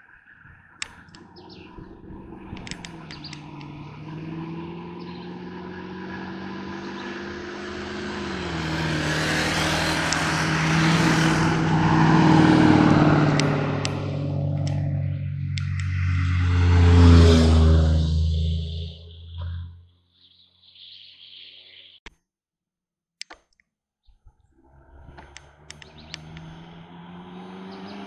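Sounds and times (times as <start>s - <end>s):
race car engine approaching: 0.3s - 19.7s, 24.6s - 28.0s.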